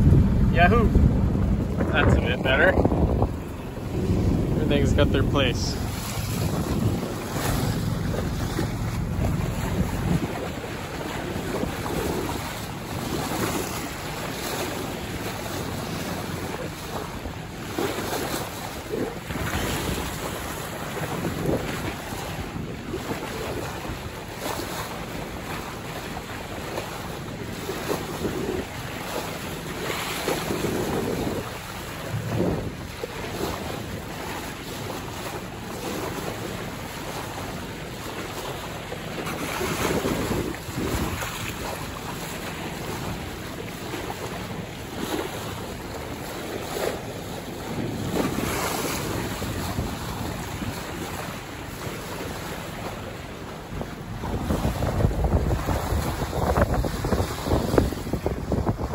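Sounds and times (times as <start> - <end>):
waves washing past boat: 0.0 - 58.9
wind buffeting microphone: 0.0 - 58.9.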